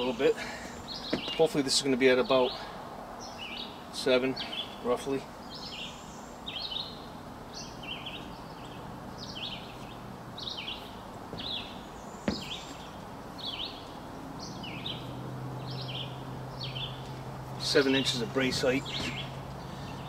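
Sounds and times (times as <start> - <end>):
outdoor background hiss: 0.0 - 20.0
songbird chirping: 0.0 - 20.0.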